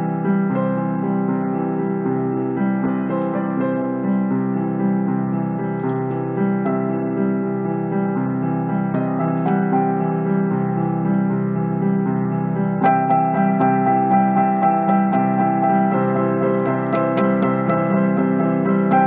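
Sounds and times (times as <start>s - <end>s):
slow keyboard chords: 0.0s - 19.0s.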